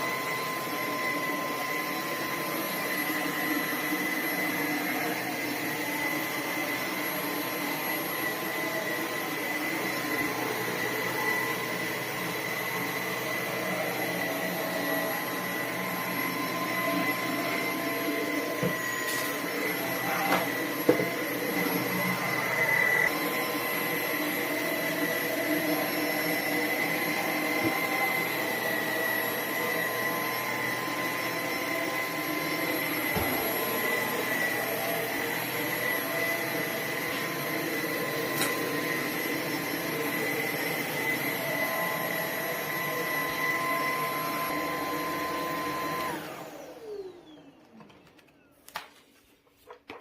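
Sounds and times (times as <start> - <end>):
stick vacuum motor whine: 0.0 - 48.6.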